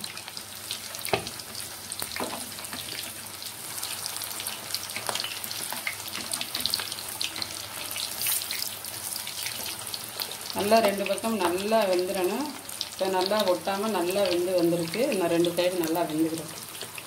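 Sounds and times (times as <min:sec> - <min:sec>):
oil sizzling and crackling: 0:00.0 - 0:17.0.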